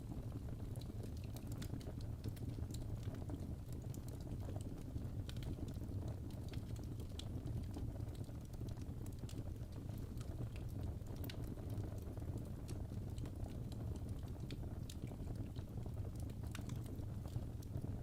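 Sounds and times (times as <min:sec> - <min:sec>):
fire crackles and clicks: 0:00.0 - 0:18.0
fireplace low rumble: 0:00.0 - 0:18.0.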